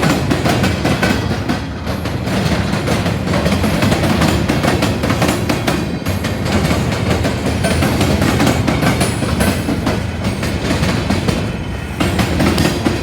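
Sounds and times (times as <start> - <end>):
wheels clacking over rail joints: 0.0 - 13.0.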